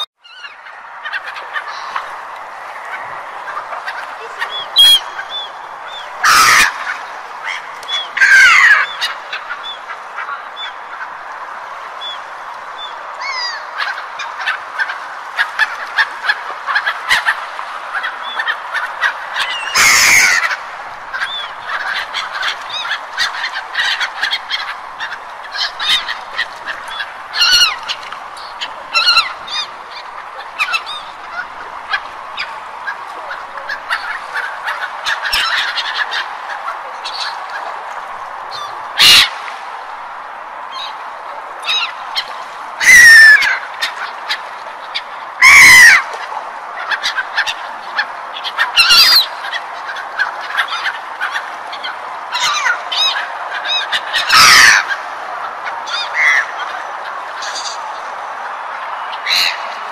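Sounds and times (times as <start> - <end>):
background rush: 0.0 - 59.9
gulls calling: 0.0 - 59.9.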